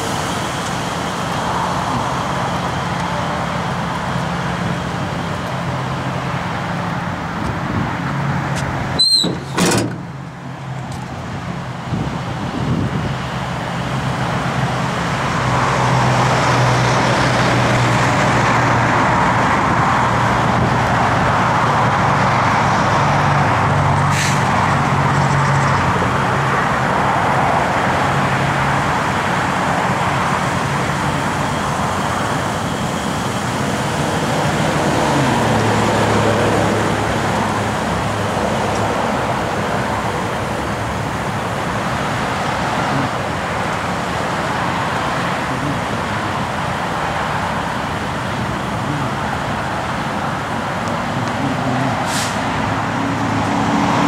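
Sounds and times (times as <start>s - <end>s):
low engine hum: 0.0s - 54.0s
road traffic passing: 0.0s - 54.0s.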